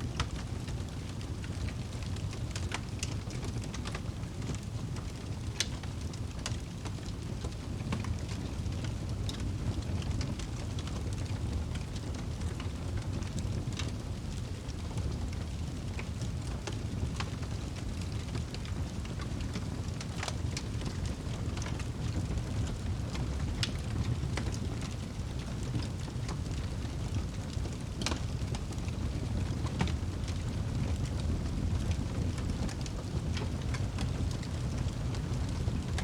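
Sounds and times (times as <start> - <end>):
burning wood crackling and popping: 0.0 - 36.0
low roar of flames: 0.0 - 36.0.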